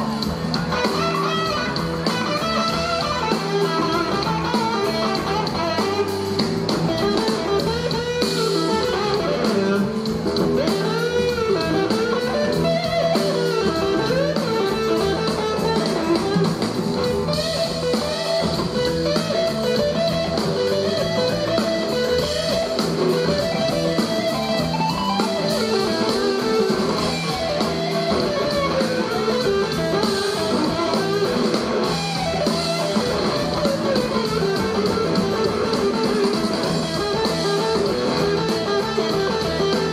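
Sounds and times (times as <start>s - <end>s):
drum kit: 0.0s - 39.9s
electric guitar bending notes: 0.0s - 39.9s.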